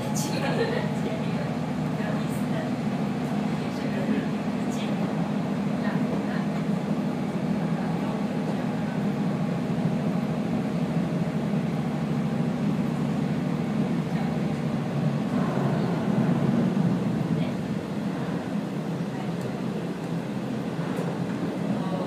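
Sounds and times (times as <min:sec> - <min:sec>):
diesel railcar running: 0:00.0 - 0:22.0
rail running noise: 0:00.0 - 0:22.0.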